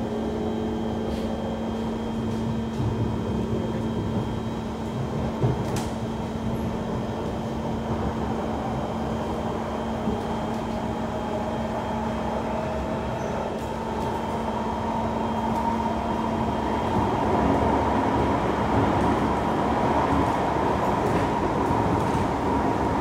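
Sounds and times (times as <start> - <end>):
train wheels rumbling on rail: 0.0 - 23.0
train whine: 0.0 - 23.0.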